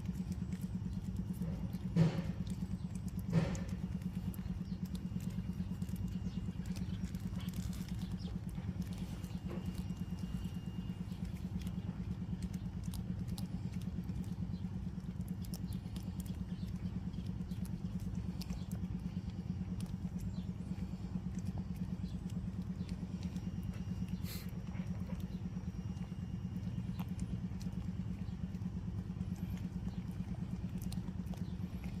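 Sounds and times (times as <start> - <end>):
low fast-pulsing rumble: 0.0 - 32.0
cat tongue licking clicks: 0.1 - 32.0.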